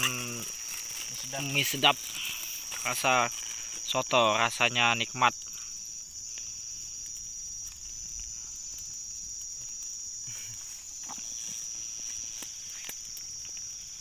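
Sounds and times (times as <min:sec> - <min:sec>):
insect chorus trilling: 0:00.0 - 0:14.0.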